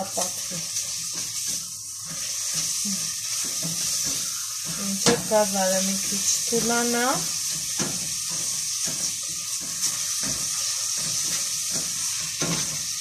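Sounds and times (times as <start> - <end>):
spatula stirring: 0.0 - 13.0
vegetables sizzling in oil: 0.0 - 13.0.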